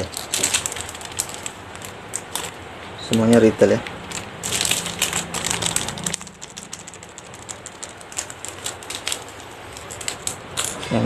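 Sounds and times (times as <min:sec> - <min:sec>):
plastic bags crinkling: 0:00.0 - 0:10.9.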